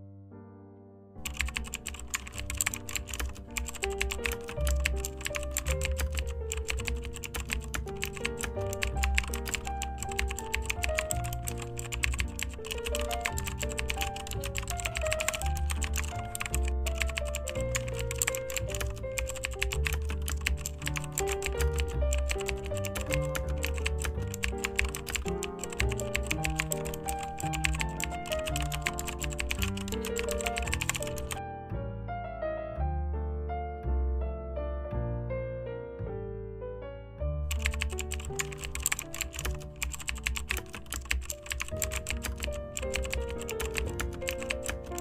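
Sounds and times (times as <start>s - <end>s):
rapid keyboard typing clicks: 1.2s - 31.4s, 37.5s - 45.0s.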